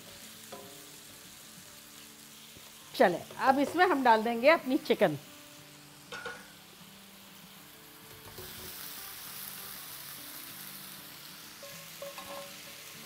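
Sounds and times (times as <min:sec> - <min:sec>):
sauce sizzling in a hot pan: 0:00.0 - 0:13.0.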